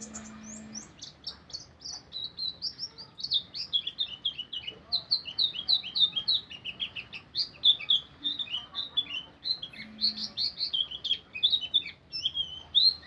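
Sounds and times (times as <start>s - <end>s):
bird chirping and twittering: 0.0s - 13.0s.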